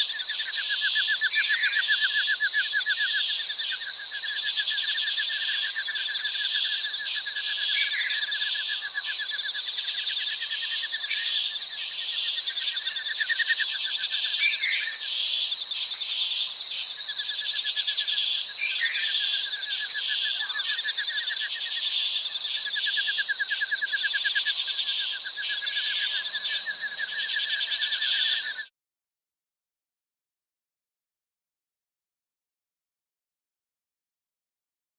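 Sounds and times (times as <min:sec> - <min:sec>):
insects buzzing: 0:00.0 - 0:28.6.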